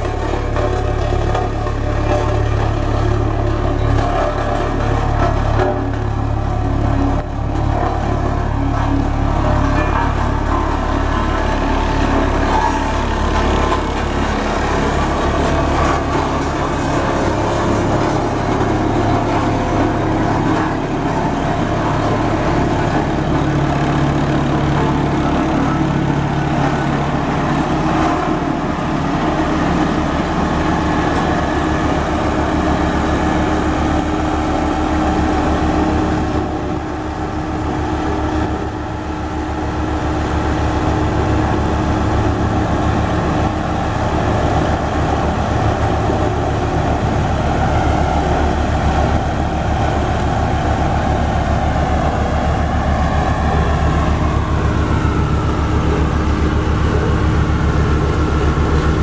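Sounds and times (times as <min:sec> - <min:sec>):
road roller diesel engine running: 0:00.0 - 0:59.0.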